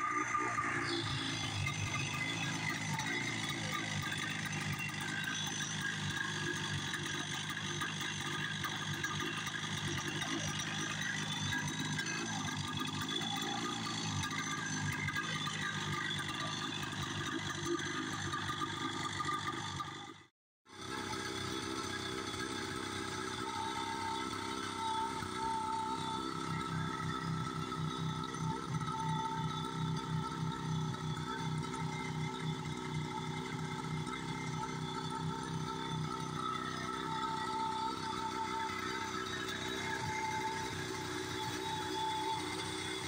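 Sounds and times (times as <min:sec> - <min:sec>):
snowmobile engine idling: 0:00.0 - 0:43.0.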